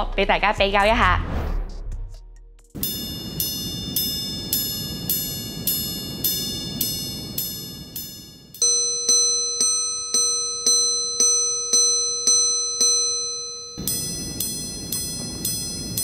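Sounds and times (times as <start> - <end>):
bright thin watch chimes: 2.8 - 16.0
ringing gong strikes: 2.8 - 16.0.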